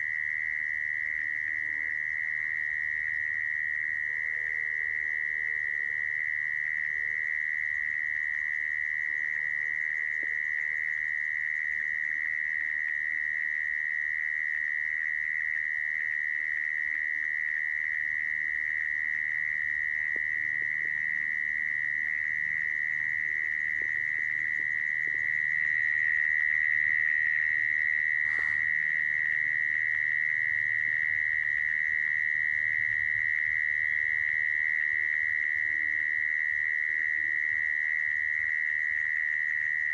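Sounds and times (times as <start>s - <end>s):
mole cricket high trill: 0.0s - 39.9s.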